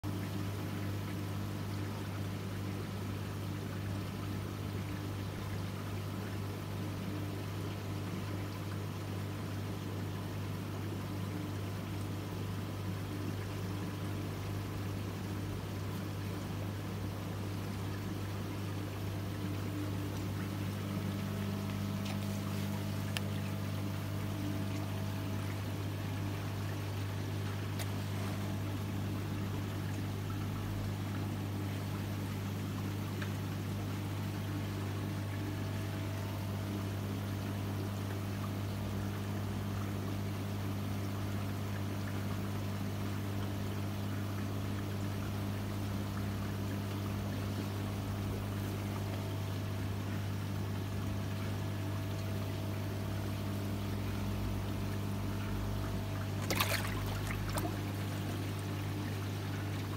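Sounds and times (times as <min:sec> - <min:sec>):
pump humming: 0:00.0 - 0:59.9
water trickling: 0:00.1 - 0:59.9.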